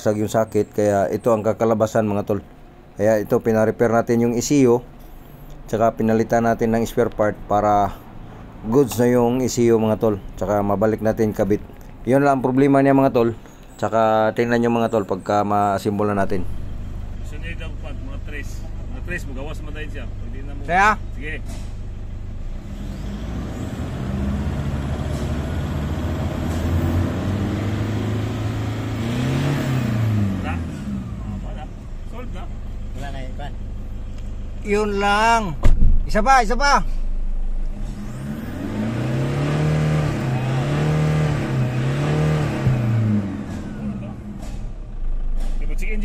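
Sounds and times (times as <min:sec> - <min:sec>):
diesel engine revving: 0:00.0 - 0:36.2, 0:36.8 - 0:46.0.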